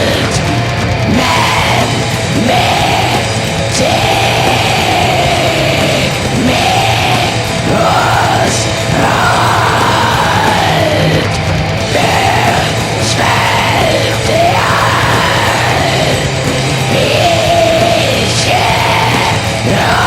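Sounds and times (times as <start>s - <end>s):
distorted metal music: 0.0s - 20.0s
harsh drawn-out vocals: 0.0s - 20.0s.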